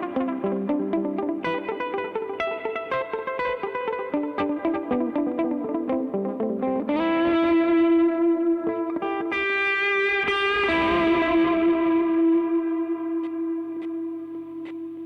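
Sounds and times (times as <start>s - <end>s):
electric guitar with reverb and delay: 0.0s - 15.0s.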